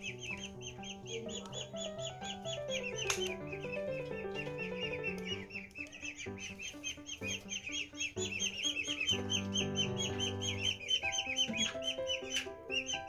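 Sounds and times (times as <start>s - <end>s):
background music: 0.0s - 13.0s
ducklings peeping: 0.0s - 13.0s.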